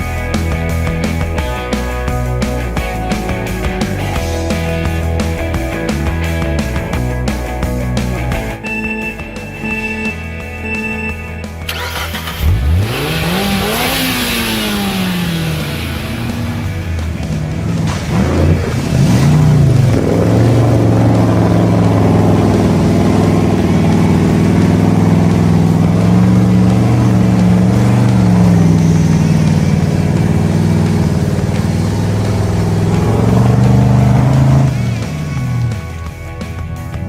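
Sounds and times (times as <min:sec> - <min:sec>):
engine running at high revs: 0:00.0 - 0:37.0.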